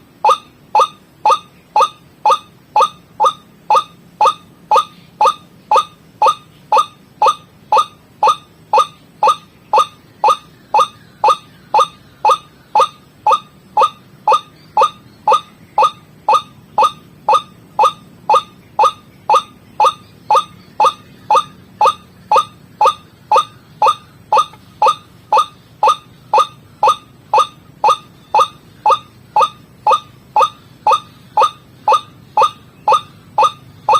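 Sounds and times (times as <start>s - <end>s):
bird calling descending note: 0.2s - 33.9s.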